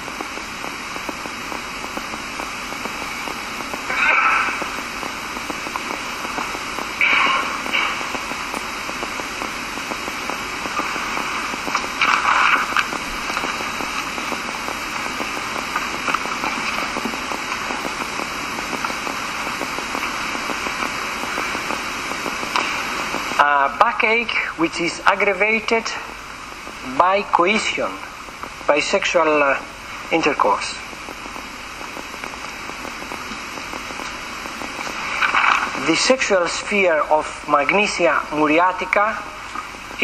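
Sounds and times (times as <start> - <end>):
background hiss: 0.0 - 40.0.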